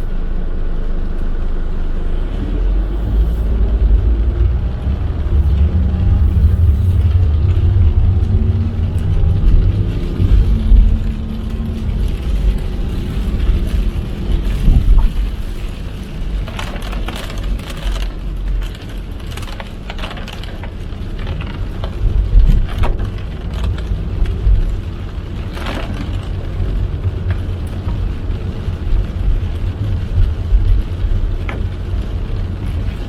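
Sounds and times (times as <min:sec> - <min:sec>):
rain tapping on car: 0:00.0 - 0:33.0
road and engine rumble: 0:00.0 - 0:33.0.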